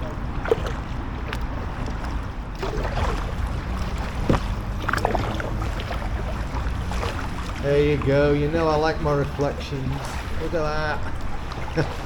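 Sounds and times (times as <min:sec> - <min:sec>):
paddle splashing in water: 0:00.0 - 0:12.0
wind rumble on microphone: 0:00.0 - 0:12.0.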